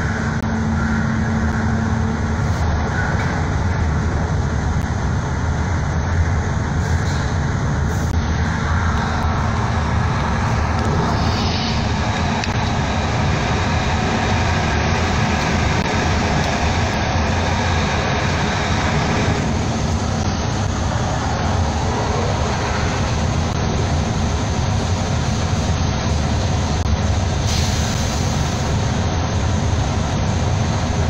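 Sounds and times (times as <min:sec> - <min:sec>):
heavy engine rumble: 0:00.0 - 0:31.0.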